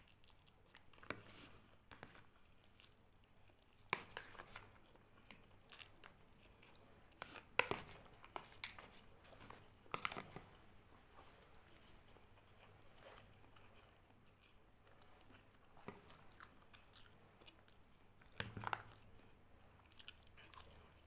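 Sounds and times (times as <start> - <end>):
person chewing crunchy food: 0.0 - 21.0.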